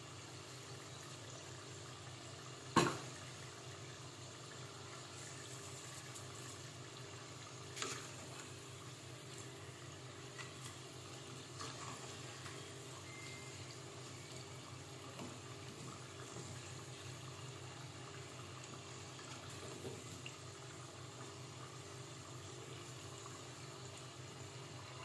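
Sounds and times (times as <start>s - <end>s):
hot oil sizzling and bubbling: 0.0s - 25.0s.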